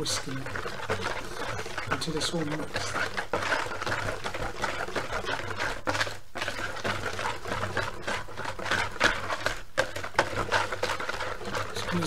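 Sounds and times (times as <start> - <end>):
whisk beating in a plastic bowl: 0.0 - 12.0.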